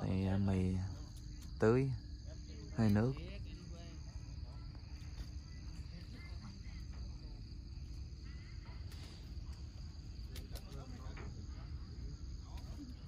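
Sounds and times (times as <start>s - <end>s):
distant voices: 0.0s - 13.0s
insect chirring: 0.0s - 13.0s.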